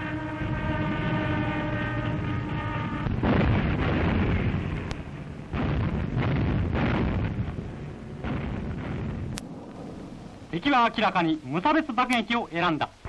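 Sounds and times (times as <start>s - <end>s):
heavy explosions rumbling: 0.0s - 12.0s
film soundtrack noise: 0.0s - 13.0s.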